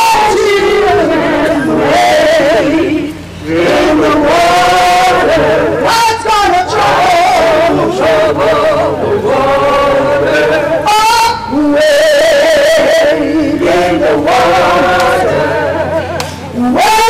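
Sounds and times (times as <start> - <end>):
group singing a chant: 0.0 - 17.0.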